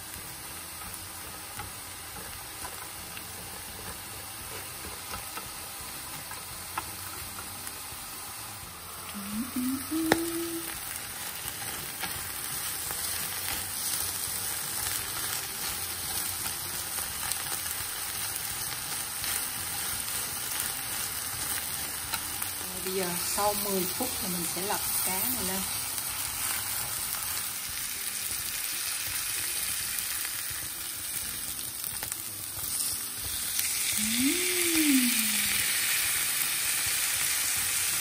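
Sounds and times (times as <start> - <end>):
food sizzling in a pan: 0.0 - 38.0.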